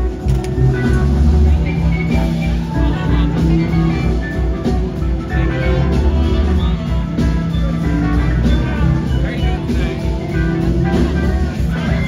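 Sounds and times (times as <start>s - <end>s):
blues-rock band playing: 0.0s - 12.0s.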